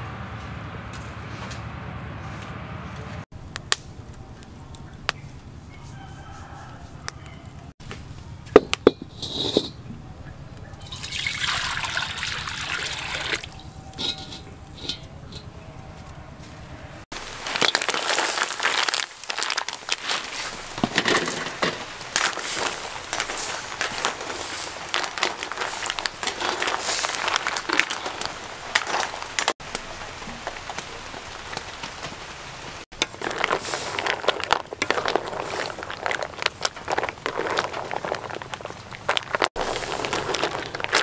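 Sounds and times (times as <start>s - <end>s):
crackling sizzle and bubbling: 3.2s - 41.0s.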